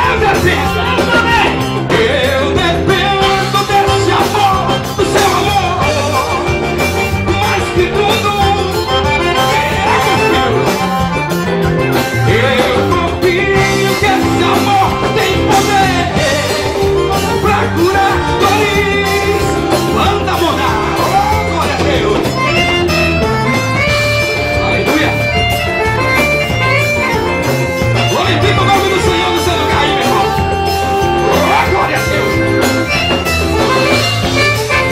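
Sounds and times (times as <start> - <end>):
man singing into a microphone: 0.0 - 11.1, 11.8 - 23.3, 28.0 - 34.9
electric guitar: 0.0 - 34.9
gospel band music: 0.0 - 34.9.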